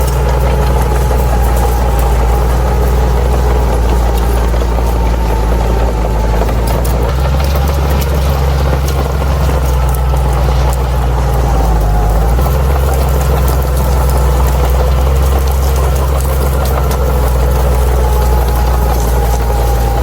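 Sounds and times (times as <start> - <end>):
bulldozer diesel engine: 0.0 - 20.0
faint clicking: 0.0 - 20.0
thin steady whine: 0.0 - 20.0.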